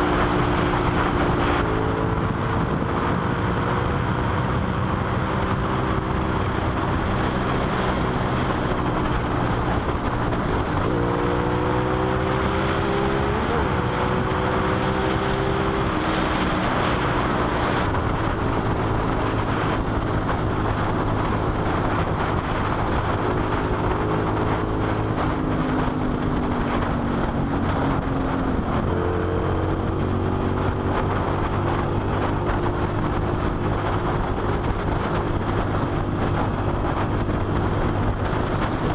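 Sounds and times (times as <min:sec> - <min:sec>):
motorcycle engine at speed: 0:00.0 - 0:38.9
wind rush on microphone: 0:00.0 - 0:38.9.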